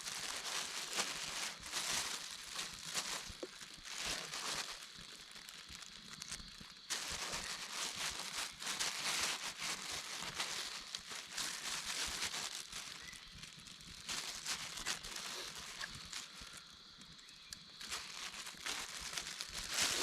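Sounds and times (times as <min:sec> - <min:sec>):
dense rustling and crackling: 0:00.0 - 0:20.0.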